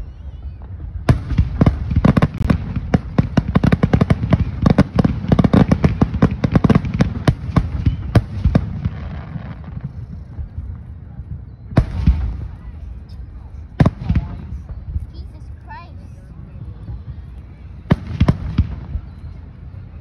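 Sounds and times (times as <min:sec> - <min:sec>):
fireworks bursting: 0:00.0 - 0:19.9.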